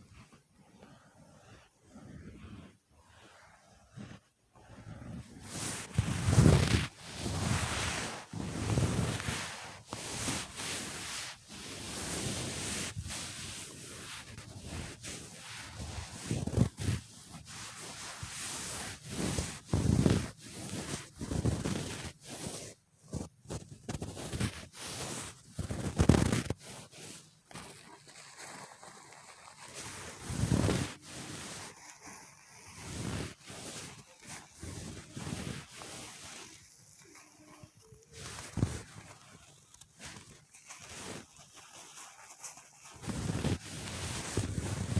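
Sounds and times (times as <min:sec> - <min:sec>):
brushing strokes: 0:00.2 - 0:44.9.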